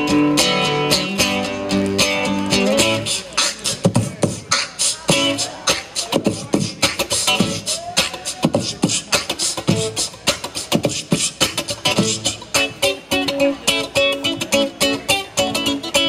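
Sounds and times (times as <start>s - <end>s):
beatboxing: 0.0s - 16.0s
strummed acoustic guitar song: 0.0s - 16.0s.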